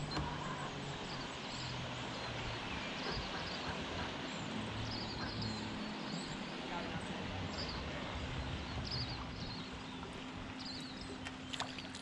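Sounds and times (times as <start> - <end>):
river water hiss: 0.0 - 12.0.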